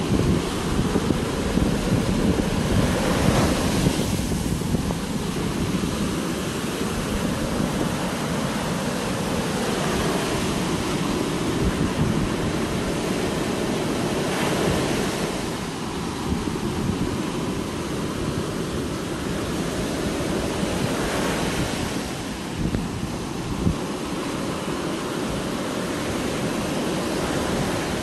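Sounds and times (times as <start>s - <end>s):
surf breaking on beach: 0.0s - 28.0s
wind buffeting microphone: 0.0s - 28.0s.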